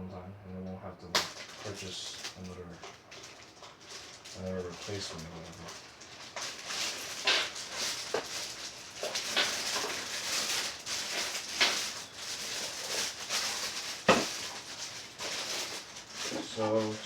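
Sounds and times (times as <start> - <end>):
packaging rustling and crinkling: 1.2 - 17.0.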